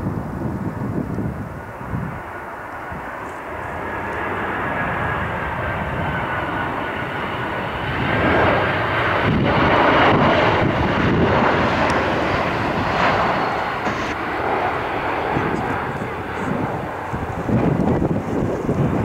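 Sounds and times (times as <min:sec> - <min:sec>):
jet airliner engine rushing: 0:00.0 - 0:19.0.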